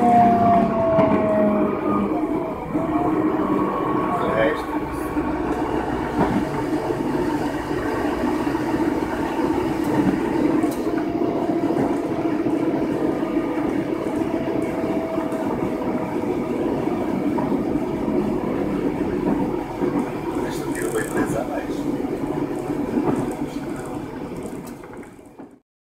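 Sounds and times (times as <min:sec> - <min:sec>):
diesel engine hum: 0:00.0 - 0:25.3
wheel and rail rumble: 0:00.0 - 0:25.6.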